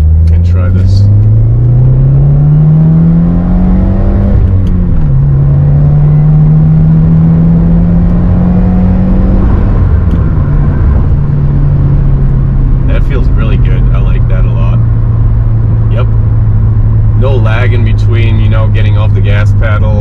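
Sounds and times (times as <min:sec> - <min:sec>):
car engine accelerating through gears: 0:00.0 - 0:20.0.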